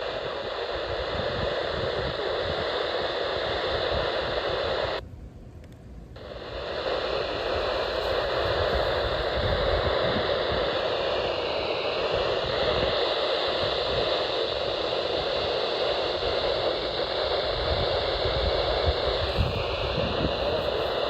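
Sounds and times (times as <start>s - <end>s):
radio static hiss: 0.0s - 5.0s, 6.2s - 21.0s.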